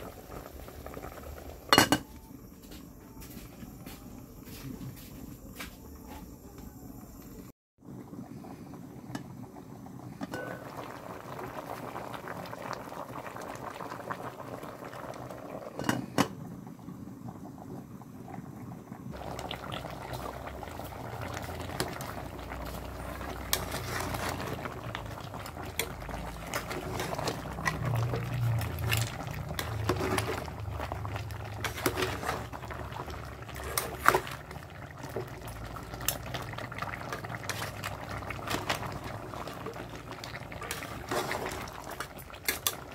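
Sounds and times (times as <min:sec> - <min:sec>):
broth boiling in a pot: 0:00.0 - 0:42.9.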